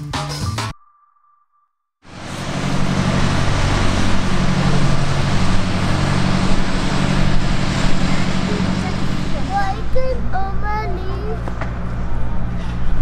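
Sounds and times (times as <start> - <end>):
light aircraft engine and propeller: 2.1 - 13.0.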